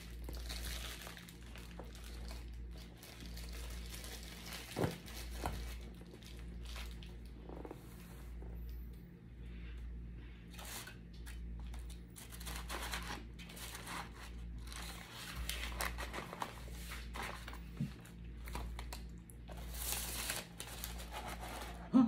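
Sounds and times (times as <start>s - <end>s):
packaging crinkling and rustling: 0.0s - 8.1s, 10.5s - 21.9s
steady low hum: 0.0s - 22.0s.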